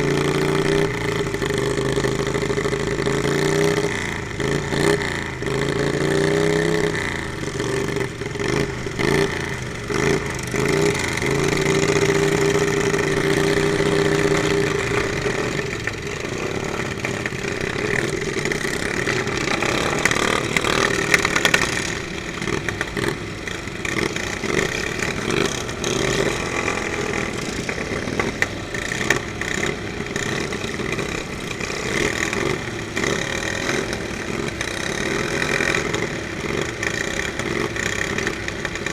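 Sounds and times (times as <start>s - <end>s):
lawn mower engines revving: 0.0s - 38.9s.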